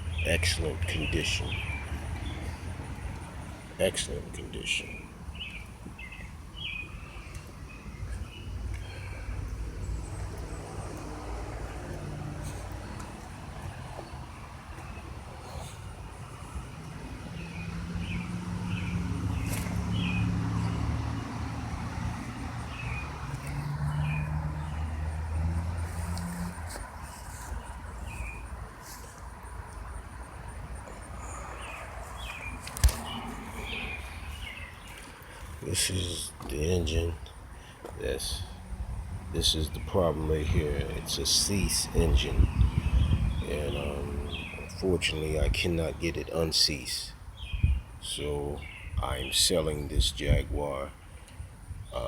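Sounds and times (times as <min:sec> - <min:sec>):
birds chirping: 0:00.0 - 0:52.0
motor vehicle engine rumbling: 0:00.0 - 0:52.0.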